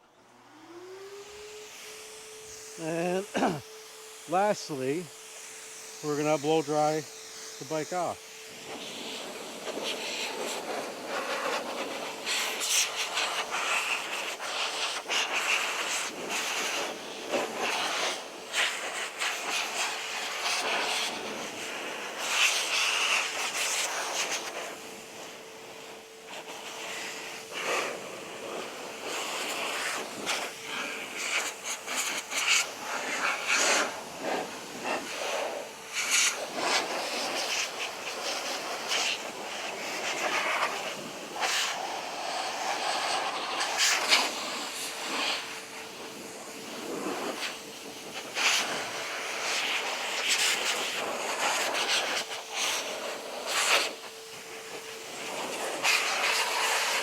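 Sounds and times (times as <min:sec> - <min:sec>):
air blower rushing: 0:00.0 - 0:57.0
blower whine: 0:00.0 - 0:57.0.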